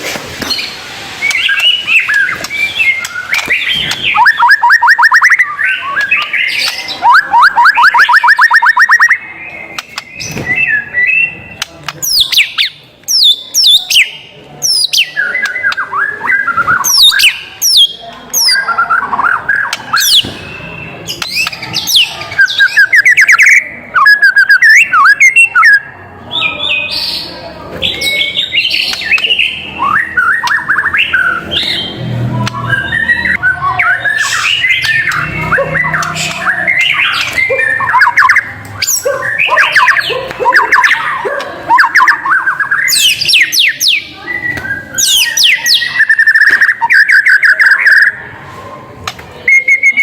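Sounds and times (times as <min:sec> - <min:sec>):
bird singing trills and whistles: 0:00.4 - 0:48.3, 0:49.3 - 0:50.0.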